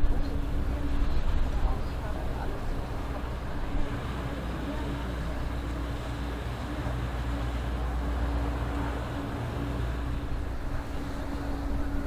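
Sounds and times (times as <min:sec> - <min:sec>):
ship diesel engine drone: 0:00.0 - 0:12.0
steady hum: 0:00.0 - 0:12.0.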